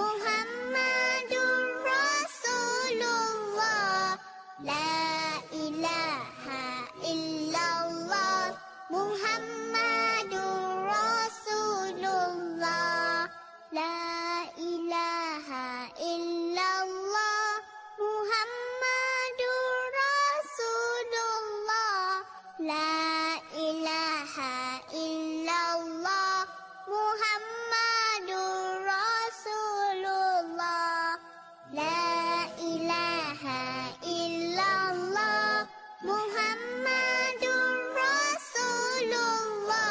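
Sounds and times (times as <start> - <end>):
child singing a chant: 0.0 - 39.9.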